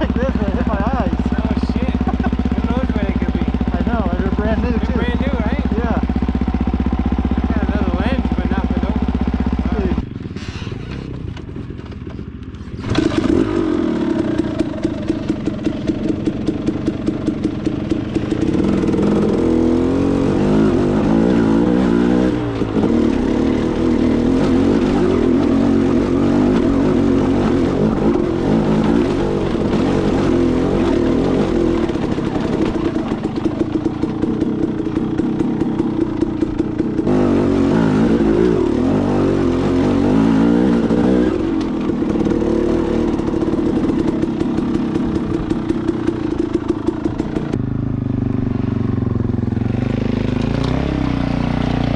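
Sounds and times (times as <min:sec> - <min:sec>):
dirt bike engine revving: 0:00.0 - 0:11.7, 0:12.6 - 0:51.9.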